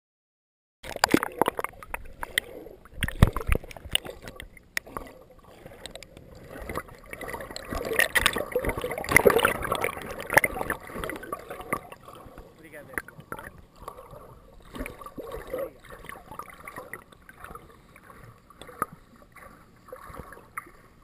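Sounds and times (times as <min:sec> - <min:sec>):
muffled water churning and gurgling: 0:00.8 - 0:21.0.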